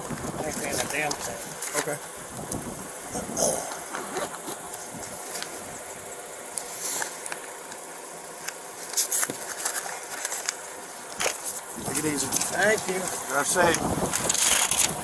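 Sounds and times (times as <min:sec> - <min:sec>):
vehicle and street noise: 0:00.0 - 0:15.0.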